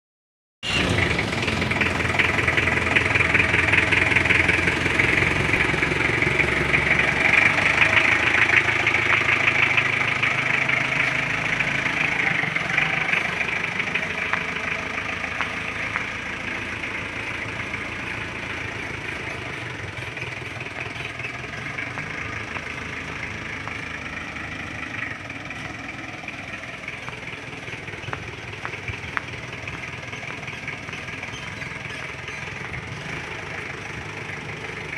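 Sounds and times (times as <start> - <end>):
jeep engine running: 0.6 - 34.9.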